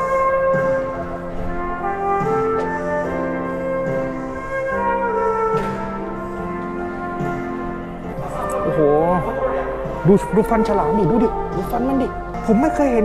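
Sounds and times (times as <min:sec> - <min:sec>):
flute playing slow melody: 0:00.0 - 0:13.0.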